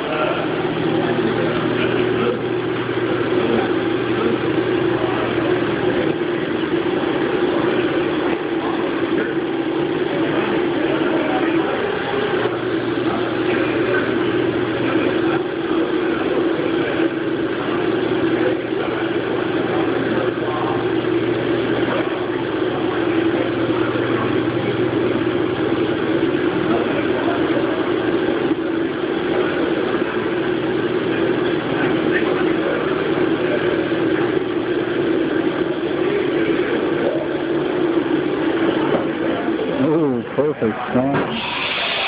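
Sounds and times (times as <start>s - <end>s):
machine drone: 0.0s - 42.0s.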